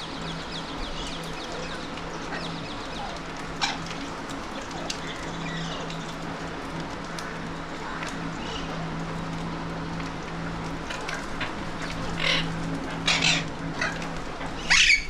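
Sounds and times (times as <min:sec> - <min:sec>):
birds chirping and calling: 0:00.0 - 0:15.0
steady low hum: 0:00.0 - 0:15.0.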